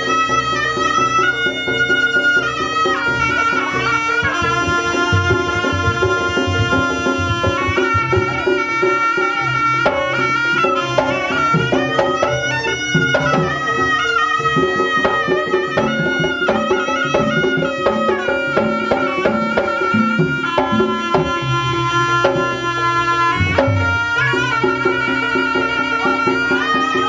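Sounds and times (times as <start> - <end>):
drum strokes: 0.0 - 27.0
wind instrument melody: 0.0 - 27.0.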